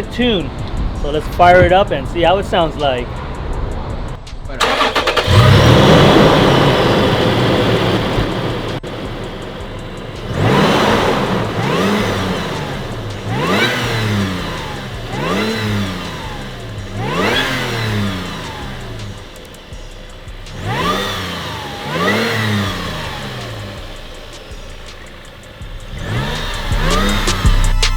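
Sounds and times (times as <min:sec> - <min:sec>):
engine starting and revving: 0:04.6 - 0:27.9
supercharger whine: 0:04.6 - 0:27.9.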